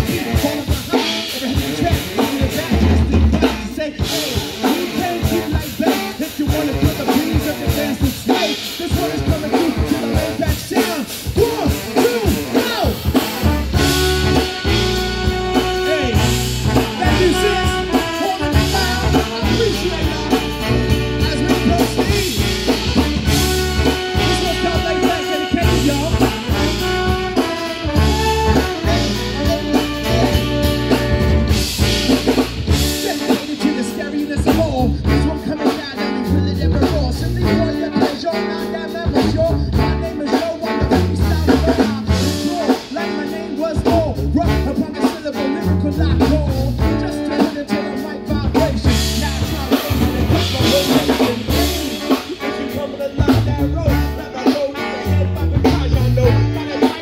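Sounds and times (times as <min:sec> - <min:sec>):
drum kit: 0:00.0 - 0:57.0
live brass band playing: 0:00.0 - 0:57.0
sousaphone bass line: 0:00.0 - 0:57.0.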